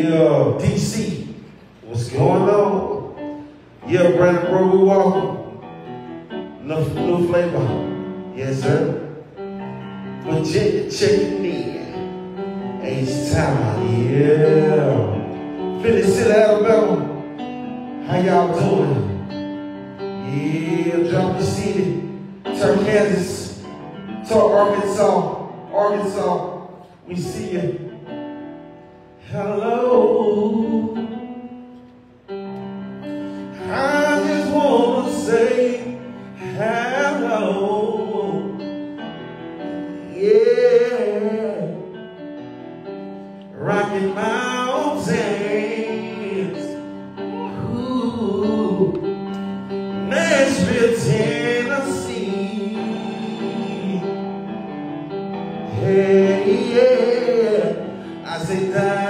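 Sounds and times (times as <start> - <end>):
man singing gospel-style melody: 0.0 - 3.2, 3.8 - 5.6, 6.5 - 9.3, 10.2 - 19.4, 20.0 - 28.2, 29.2 - 31.5, 33.2 - 38.9, 39.8 - 42.2, 43.5 - 54.6, 55.5 - 59.0
held keyboard chords: 0.0 - 59.0.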